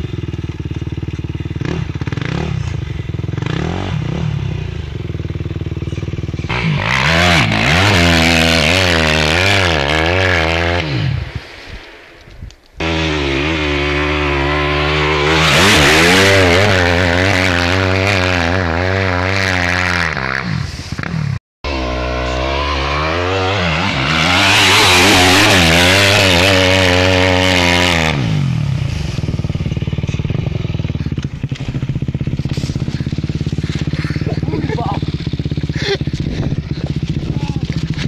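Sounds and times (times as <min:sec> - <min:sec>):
dirt bike engine revving: 0:00.0 - 0:11.4, 0:12.8 - 0:38.0.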